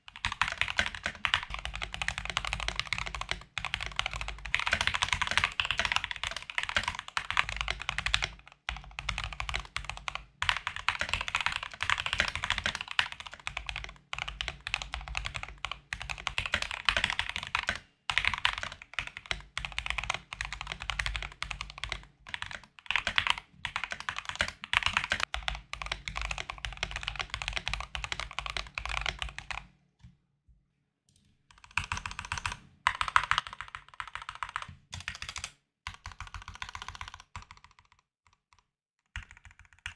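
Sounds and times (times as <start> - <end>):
fast mechanical keyboard typing: 0.1 - 29.7, 31.5 - 39.9.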